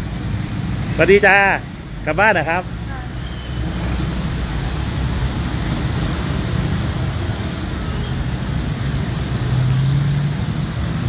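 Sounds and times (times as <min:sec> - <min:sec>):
traffic on wet road: 0:00.0 - 0:11.0.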